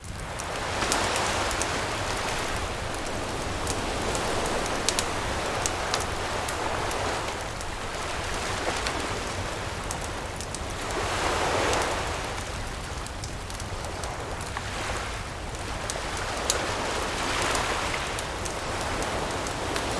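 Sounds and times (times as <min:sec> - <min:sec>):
campfire crackling and popping: 0:00.0 - 0:19.9
waves washing onto beach: 0:00.0 - 0:19.9.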